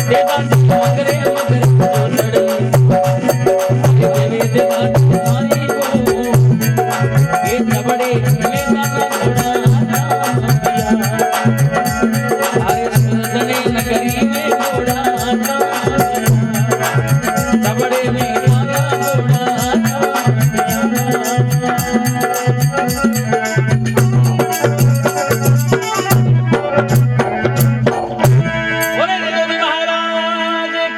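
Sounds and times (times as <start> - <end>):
hand drum rhythm: 0.0 - 29.0
rattle rhythm: 0.0 - 29.0.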